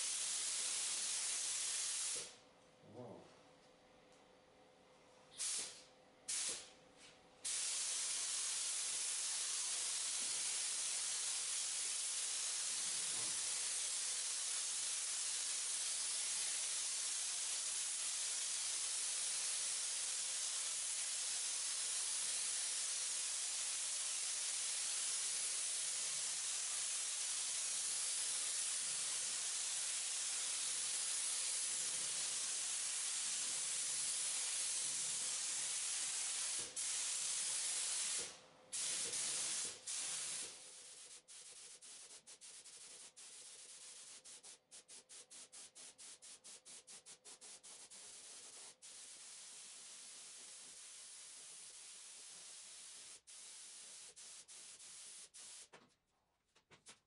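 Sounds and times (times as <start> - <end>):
paint spray gun hissing: 0.0 - 2.3, 5.4 - 6.7, 7.4 - 55.7.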